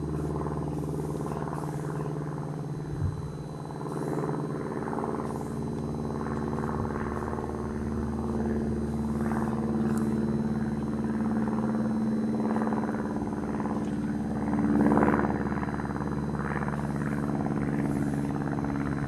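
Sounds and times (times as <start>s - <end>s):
engine drone: 0.0s - 19.0s.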